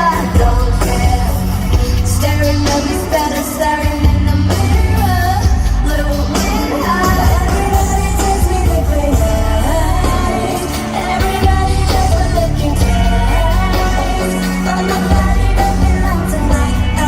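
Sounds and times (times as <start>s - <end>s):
pop backing track with heavy bass: 0.0s - 17.0s
woman singing: 0.0s - 17.0s.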